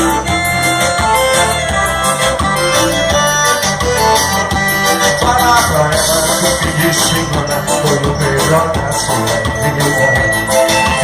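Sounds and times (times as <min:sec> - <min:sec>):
bass: 0:00.0 - 0:11.0
steady drum beat: 0:00.0 - 0:11.0
sustained keyboard melody: 0:00.0 - 0:11.0.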